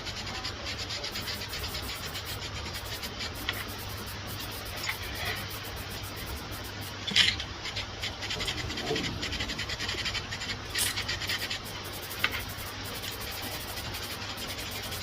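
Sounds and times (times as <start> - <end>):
rasping strokes on metal: 0.0 - 7.0, 7.6 - 15.0
steady low hum: 0.0 - 15.0.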